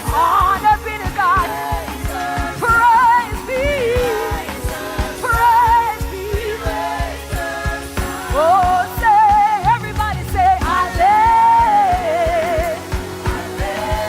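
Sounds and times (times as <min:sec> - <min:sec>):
bass: 0:00.0 - 0:14.0
drum beat: 0:00.0 - 0:14.0
keyboard: 0:00.0 - 0:14.0
lead singer singing: 0:00.0 - 0:14.0.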